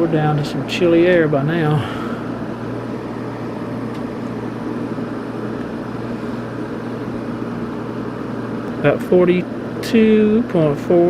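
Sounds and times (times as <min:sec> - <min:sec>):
air conditioner fan air rush: 0:00.0 - 0:11.0
compressor humming: 0:00.0 - 0:11.0.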